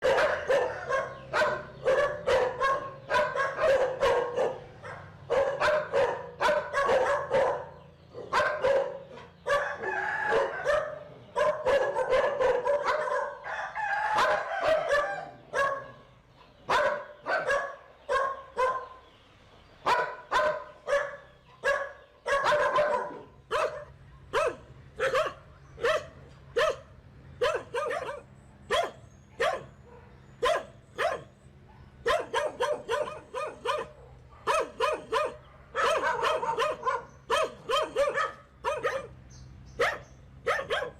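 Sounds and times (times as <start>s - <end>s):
dog barking: 0.0s - 19.1s, 19.8s - 40.9s.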